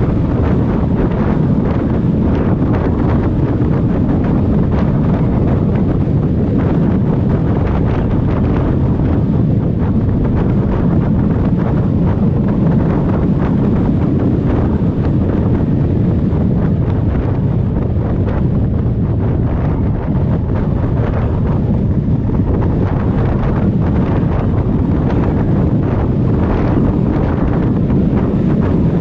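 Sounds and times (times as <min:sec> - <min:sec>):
low motorcycle ride rumble: 0:00.0 - 0:29.0
wind buffeting microphone: 0:00.0 - 0:29.0.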